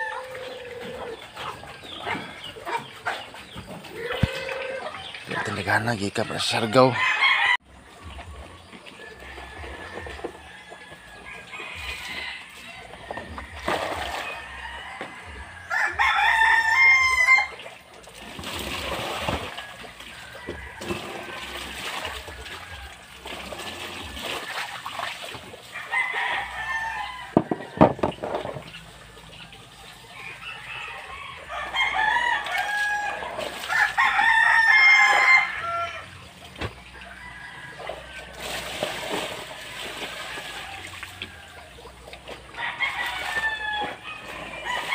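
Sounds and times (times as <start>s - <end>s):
roosters crowing: 0.0s - 24.8s, 25.5s - 44.9s
water splashing in basins: 0.0s - 44.9s.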